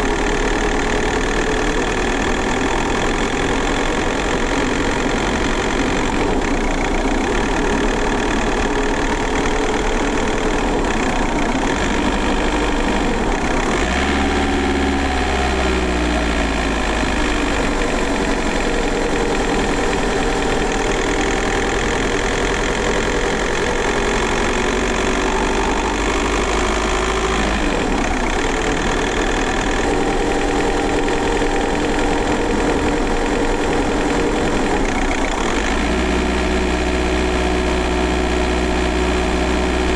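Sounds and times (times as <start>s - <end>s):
diesel car engine from inside: 0.0s - 39.9s.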